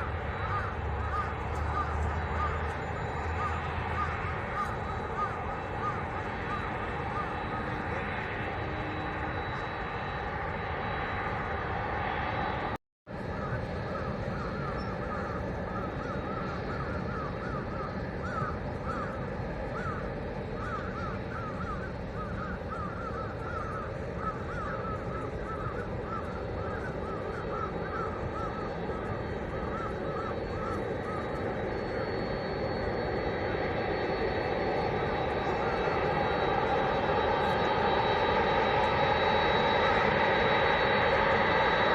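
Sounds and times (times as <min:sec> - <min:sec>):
crows cawing: 0:00.0 - 0:09.9, 0:13.3 - 0:41.9
aircraft high whine: 0:00.0 - 0:41.9
jet aircraft rumble: 0:00.0 - 0:41.9.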